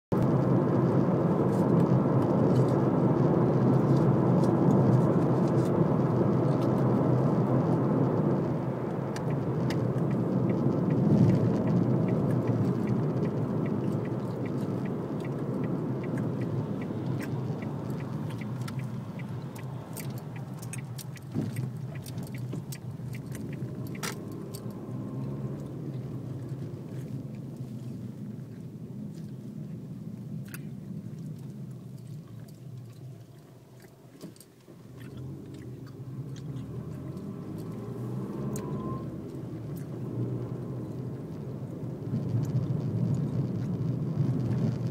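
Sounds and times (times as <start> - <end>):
car road and tyre noise: 0.1 - 44.9.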